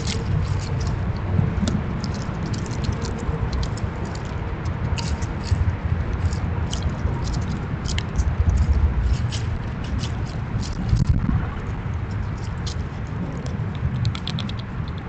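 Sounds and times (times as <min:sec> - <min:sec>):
squirrel clicks and crunches: 0:00.0 - 0:15.0
steady low rumble: 0:00.0 - 0:15.0.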